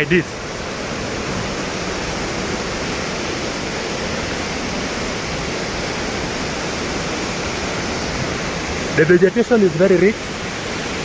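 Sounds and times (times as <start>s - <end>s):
waterfall thundering: 0.0s - 11.0s.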